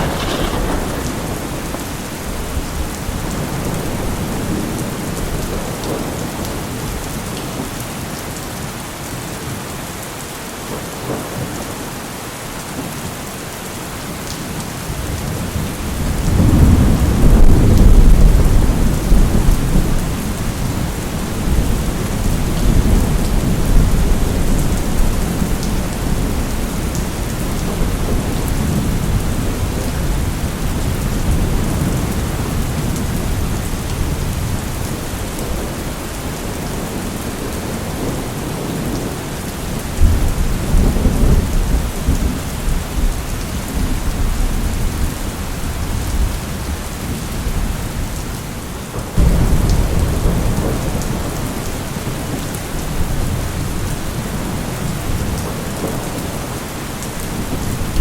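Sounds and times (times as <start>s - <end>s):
thunder rumbling: 0.0s - 7.0s, 15.0s - 47.8s, 49.0s - 58.0s
heavy rain: 0.0s - 58.0s.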